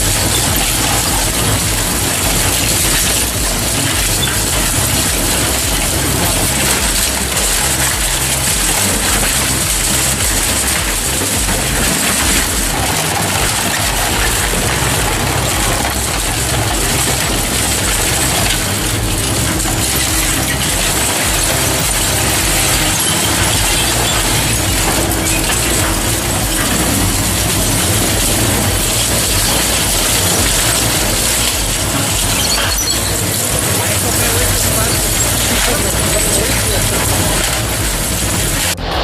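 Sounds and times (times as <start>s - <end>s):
machine hum: 0.0s - 39.0s
shredder crunching and clattering: 0.0s - 39.0s.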